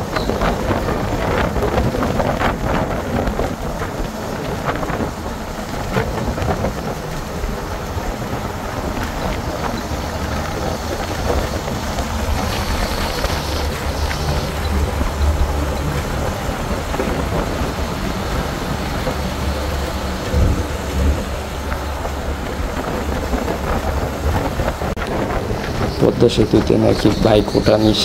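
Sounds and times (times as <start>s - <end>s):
vehicle road and wind noise: 0.0s - 28.0s.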